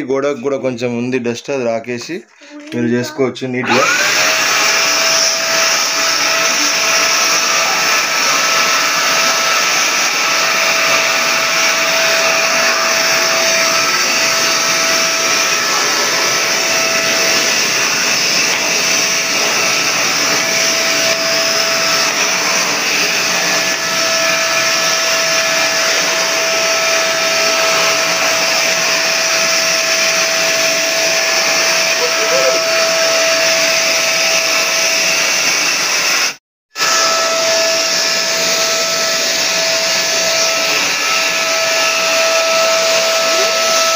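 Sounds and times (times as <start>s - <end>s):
vacuum cleaner running: 3.5s - 43.9s.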